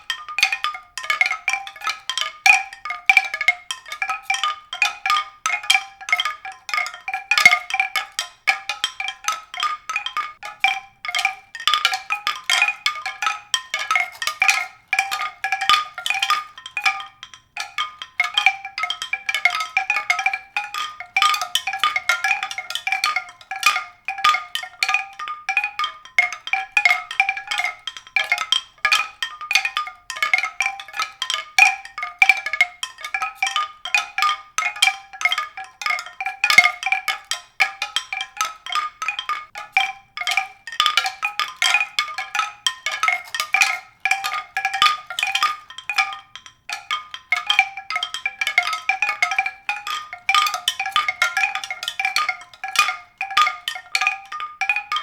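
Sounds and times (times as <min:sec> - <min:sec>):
mallet percussion music: 0:00.0 - 0:55.0.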